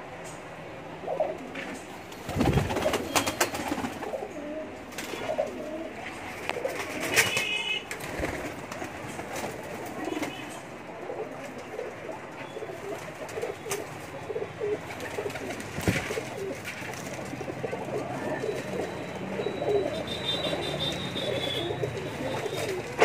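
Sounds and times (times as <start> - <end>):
pigeons cooing: 0.9 - 23.0.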